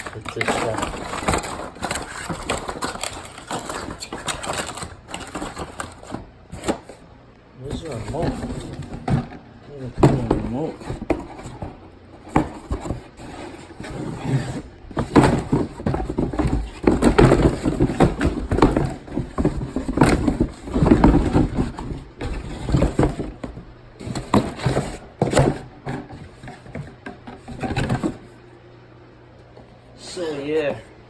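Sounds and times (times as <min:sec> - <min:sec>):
packaging rustling and knocking: 0:00.0 - 0:07.0, 0:07.6 - 0:28.3.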